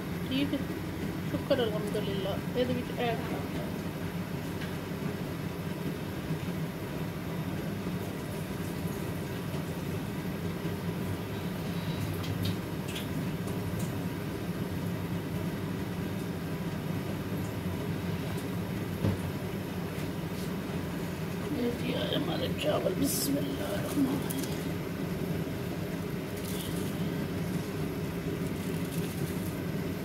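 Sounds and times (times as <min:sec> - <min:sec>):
pot boiling: 0:00.0 - 0:30.0.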